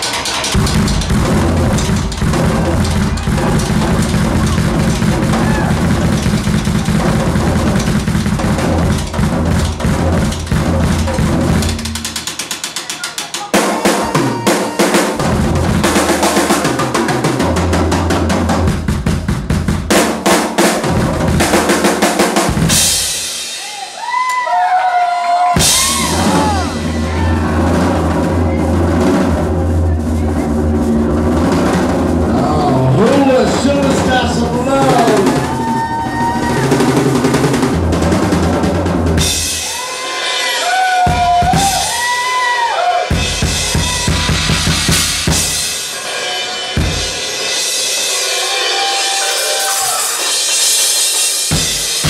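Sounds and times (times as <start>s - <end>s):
drum kit solo: 0.0s - 24.2s, 25.4s - 52.0s.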